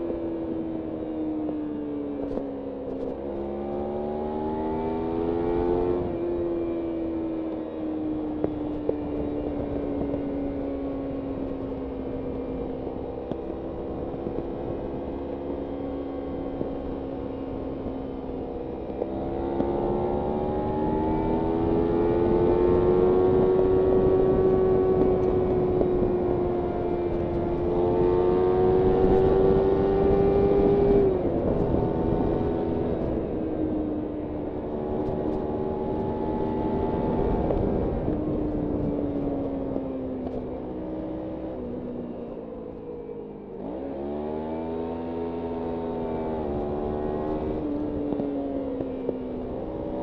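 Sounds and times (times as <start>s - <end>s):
motorcycle engine: 0.0s - 50.0s
wind noise: 3.0s - 50.0s.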